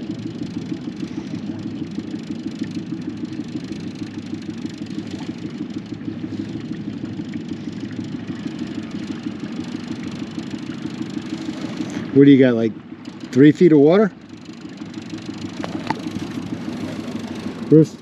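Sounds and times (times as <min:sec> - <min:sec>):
boat motor droning: 0:00.0 - 0:18.0.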